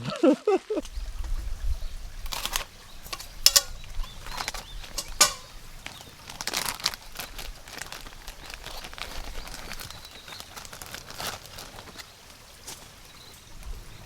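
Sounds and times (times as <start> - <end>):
rustling handling noises: 0.8 - 13.0.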